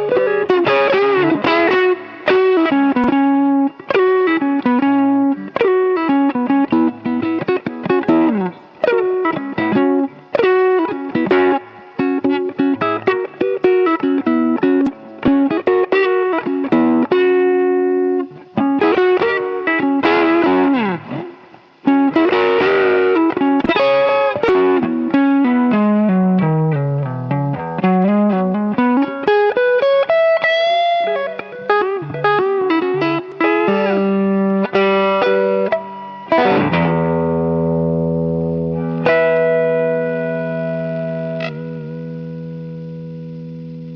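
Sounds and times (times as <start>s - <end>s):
electric guitar blues licks: 0.0s - 43.9s.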